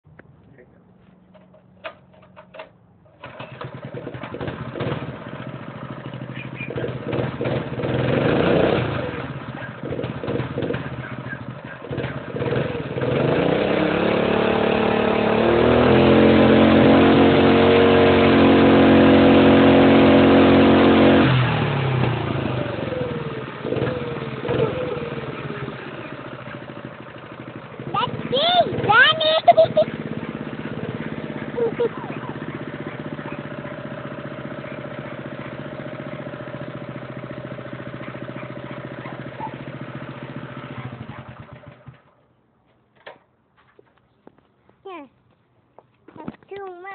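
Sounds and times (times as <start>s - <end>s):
mini bike engine revving: 1.4s - 42.2s.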